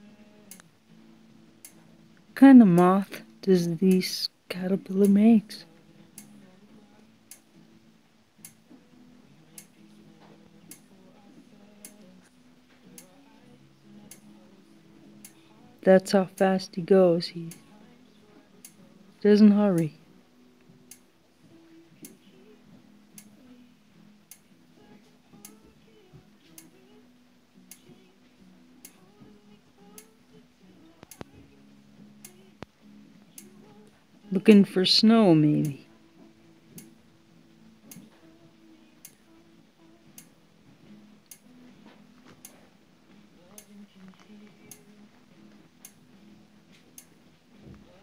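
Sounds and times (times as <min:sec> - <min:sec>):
faint regular ticking: 0:00.0 - 0:07.5, 0:08.3 - 0:08.8, 0:09.4 - 0:14.5, 0:15.1 - 0:17.8, 0:18.4 - 0:20.0, 0:20.6 - 0:26.9, 0:27.6 - 0:34.6, 0:35.6 - 0:47.2
slow music of held notes: 0:00.0 - 0:48.0.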